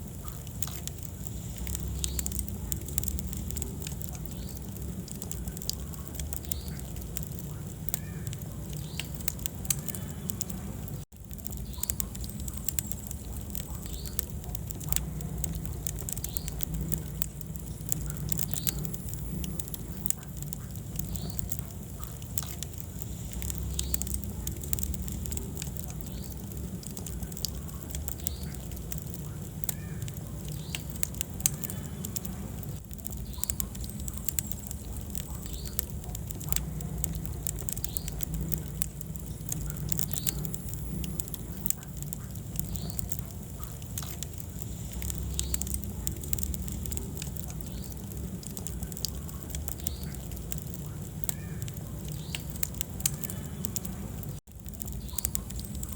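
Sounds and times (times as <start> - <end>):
fire flames rumbling: 0.0 - 55.9
logs crackling and popping: 0.0 - 55.9.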